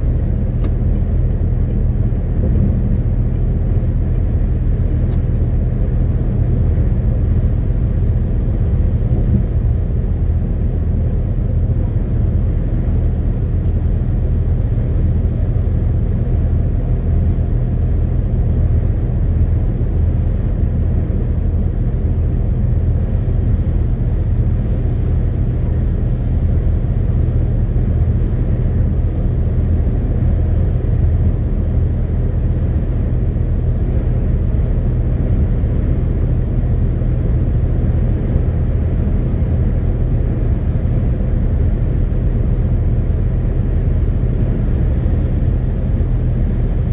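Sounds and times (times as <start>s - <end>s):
road noise: 0.0s - 46.9s.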